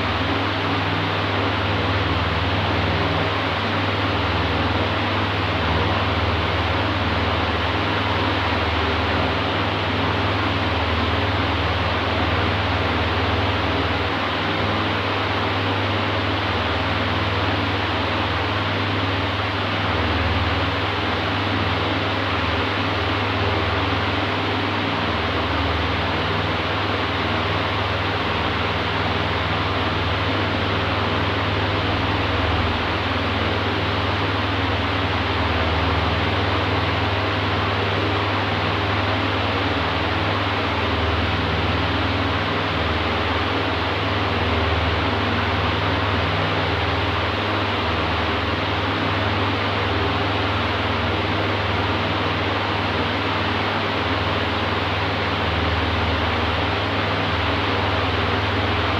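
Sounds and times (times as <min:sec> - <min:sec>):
electric fan air rush: 0:00.0 - 0:58.9.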